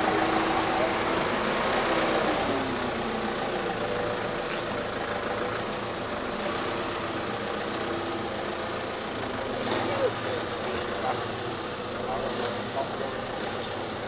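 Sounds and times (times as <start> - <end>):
truck engine: 0.0 - 14.0
vehicle engines in traffic: 0.0 - 14.0.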